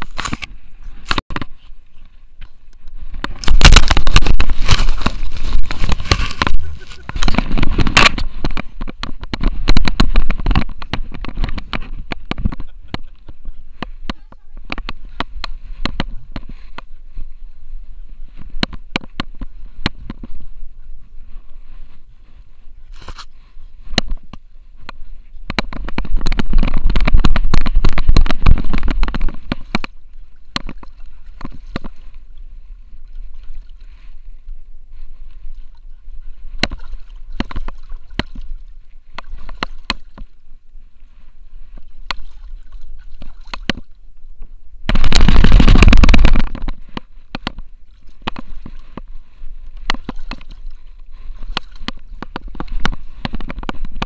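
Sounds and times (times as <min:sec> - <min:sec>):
muffled rubbing rumble: 0:00.0 - 0:54.0.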